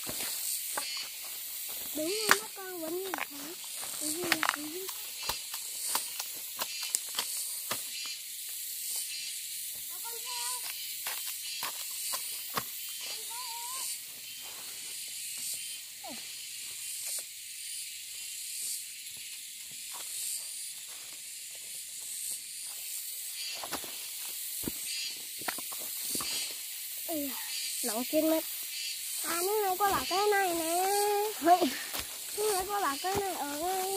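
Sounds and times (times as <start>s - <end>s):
high-pitched outdoor hiss: 0.0s - 33.9s.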